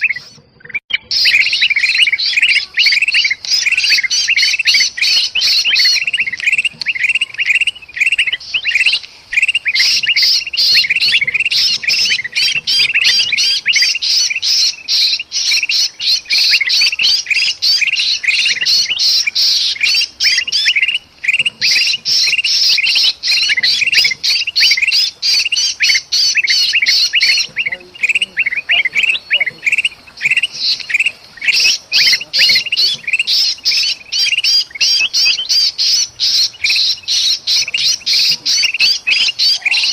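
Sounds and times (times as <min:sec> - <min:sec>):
bird chattering alarm calls: 0:00.0 - 0:39.9.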